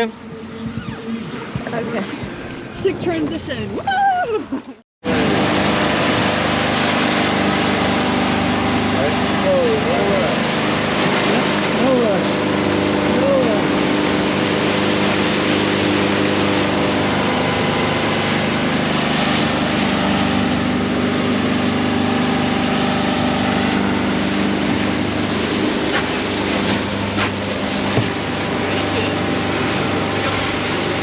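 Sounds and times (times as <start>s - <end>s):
motorboat engine running: 0.0s - 31.0s
wind: 0.0s - 31.0s
water rushing: 5.0s - 31.0s.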